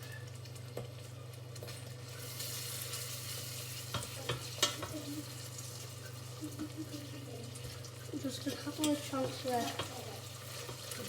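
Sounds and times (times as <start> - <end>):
mixture sizzling in a pan: 0.0 - 11.0.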